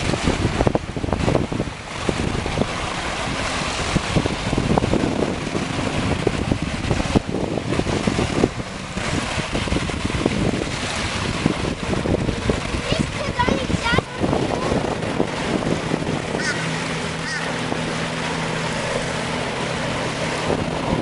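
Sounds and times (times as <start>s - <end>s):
small waves lapping on sand: 0.0s - 21.0s
wind buffeting microphone: 0.0s - 21.0s.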